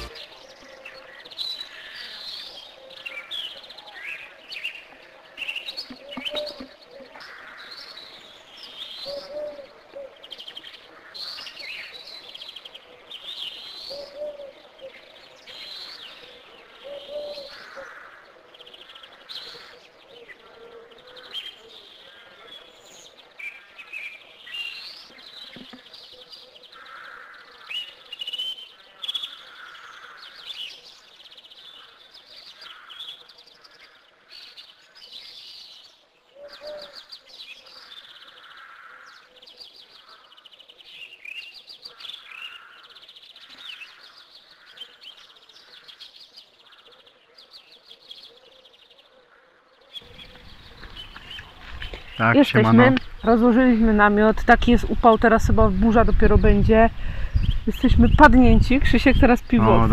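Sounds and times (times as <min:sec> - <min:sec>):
lower bird calls: 0:00.0 - 0:35.5, 0:36.3 - 0:54.8
birds chirping and trilling: 0:00.0 - 0:59.9.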